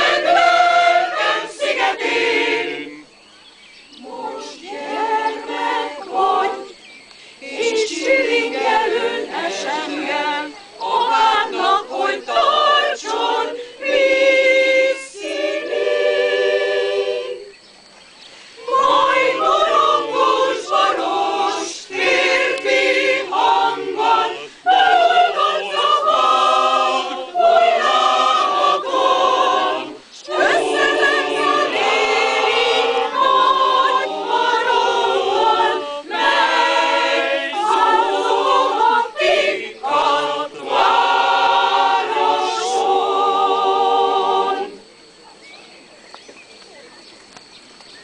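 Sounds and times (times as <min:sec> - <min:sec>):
mixed choir singing a cappella: 0:00.0 - 0:17.7, 0:18.5 - 0:45.1.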